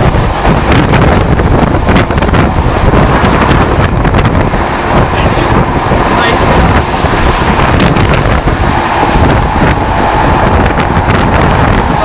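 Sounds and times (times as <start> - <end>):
train wheels rumbling on rails: 0.0 - 12.0
wind buffeting microphone: 0.0 - 12.0.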